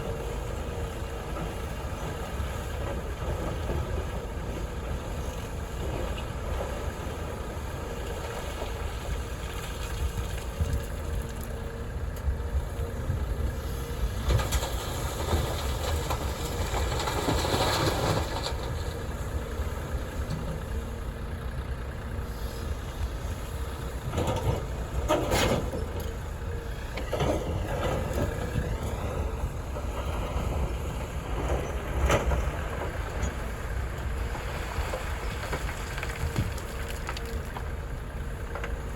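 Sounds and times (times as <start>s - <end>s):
excavator engine and hydraulics: 0.0s - 38.9s.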